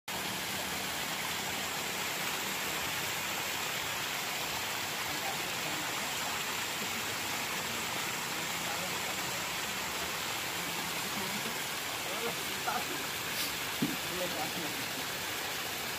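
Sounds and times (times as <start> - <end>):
outdoor background hiss: 0.1 - 15.9.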